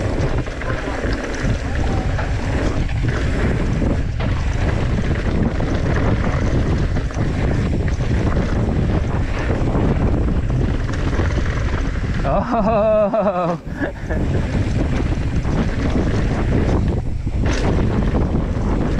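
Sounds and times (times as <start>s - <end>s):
bike tyres crunching over gravel: 0.0s - 18.9s
wind buffeting microphone: 0.0s - 18.9s.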